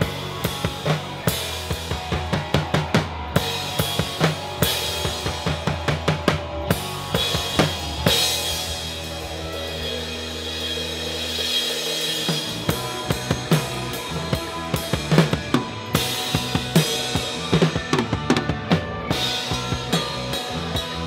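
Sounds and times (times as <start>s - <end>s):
bass guitar: 0.0s - 21.0s
drum kit beating: 0.0s - 21.0s
electric guitars: 0.0s - 21.0s.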